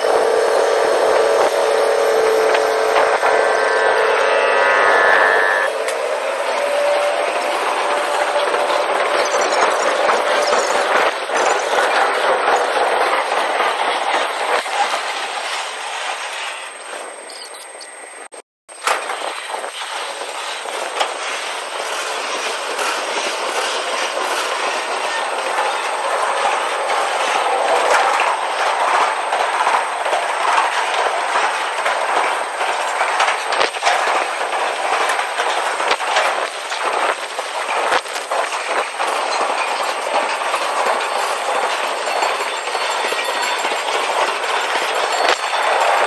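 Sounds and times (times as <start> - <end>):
train wheels rumbling on rail: 0.0 - 17.5, 18.7 - 46.0
wheels clicking over rail joints: 5.8 - 16.6, 18.8 - 46.0.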